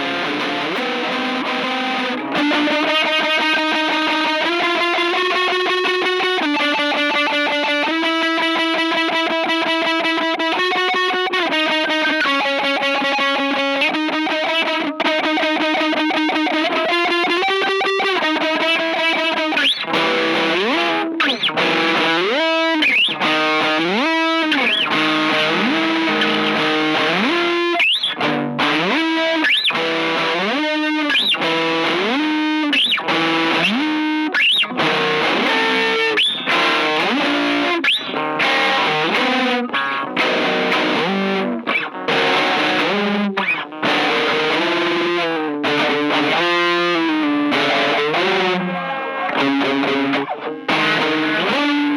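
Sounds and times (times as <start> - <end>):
distorted electric guitar: 0.0 - 51.9.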